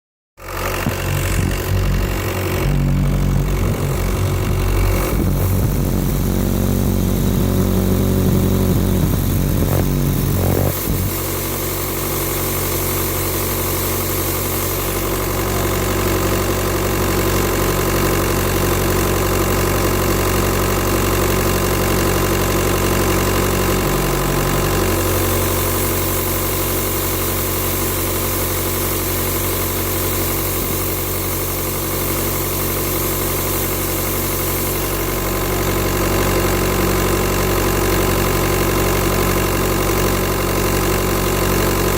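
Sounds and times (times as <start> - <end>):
car engine idling: 0.4 - 41.9.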